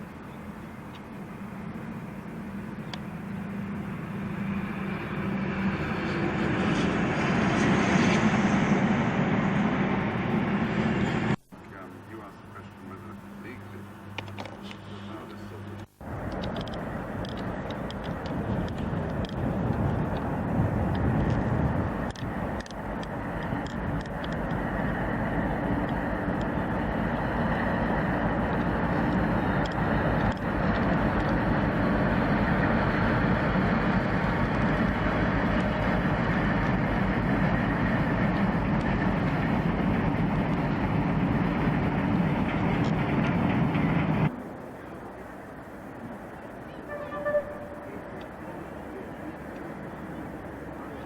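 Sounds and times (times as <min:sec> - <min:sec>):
train rumbling: 0:00.0 - 0:51.0.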